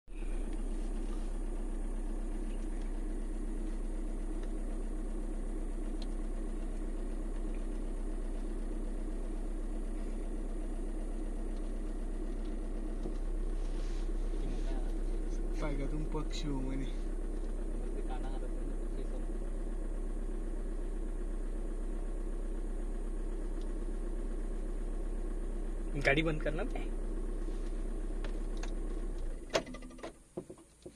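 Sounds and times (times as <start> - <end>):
vehicle engine idling: 0.0 - 30.9.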